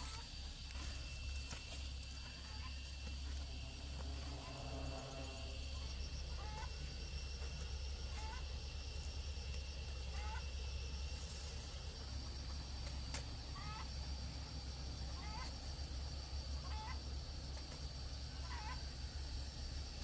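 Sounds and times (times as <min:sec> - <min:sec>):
chickens calling: 0:00.0 - 0:08.8, 0:09.4 - 0:14.3, 0:14.9 - 0:19.0
high-pitched insect drone: 0:00.0 - 0:20.0.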